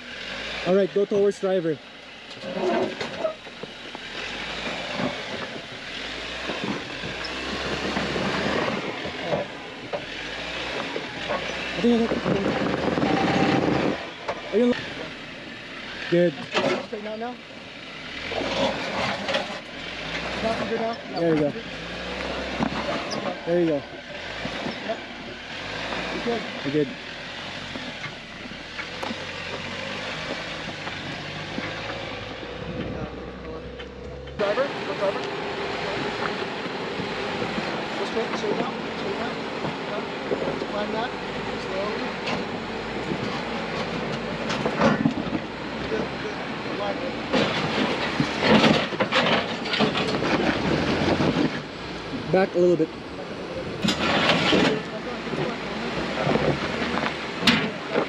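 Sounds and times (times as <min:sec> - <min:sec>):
off-road vehicle engine at low revs: 0:00.0 - 0:58.0.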